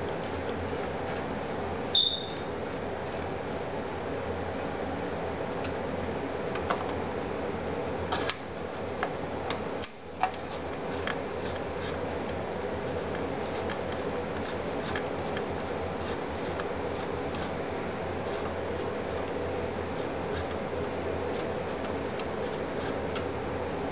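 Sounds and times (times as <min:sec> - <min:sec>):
fan-like hum: 0:00.0 - 0:23.9.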